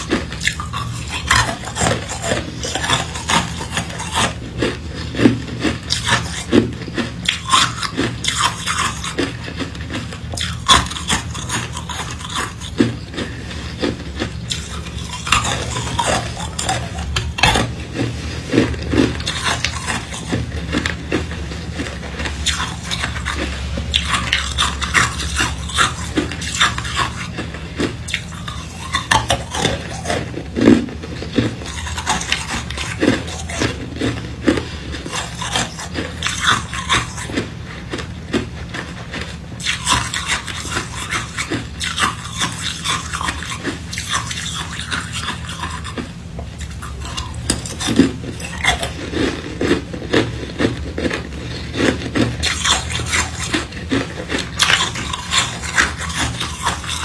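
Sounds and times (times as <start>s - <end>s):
ice cubes crunched by teeth: 0.0s - 57.0s
steady low hum: 0.0s - 57.0s.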